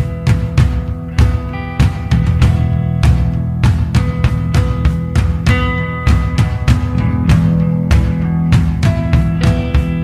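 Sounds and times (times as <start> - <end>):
guitar music over a beat: 0.0 - 10.0.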